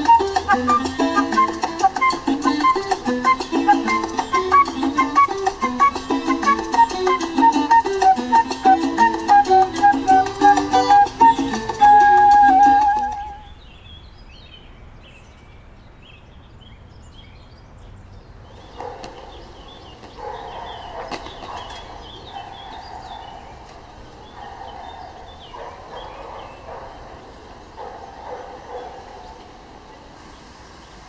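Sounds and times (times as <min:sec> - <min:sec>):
small birds chirping: 0:00.0 - 0:11.8, 0:13.2 - 0:31.0.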